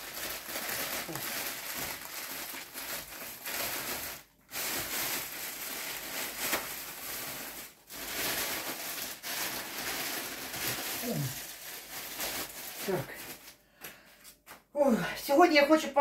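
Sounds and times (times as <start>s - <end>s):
plastic bags rustling: 0.0s - 14.2s.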